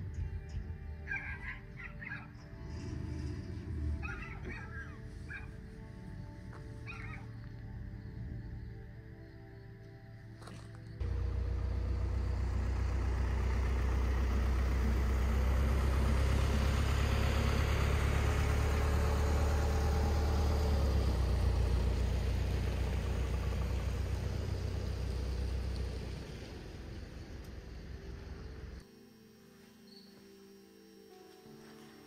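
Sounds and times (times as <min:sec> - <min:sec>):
vehicles driving past: 0:00.0 - 0:08.5, 0:11.0 - 0:28.8.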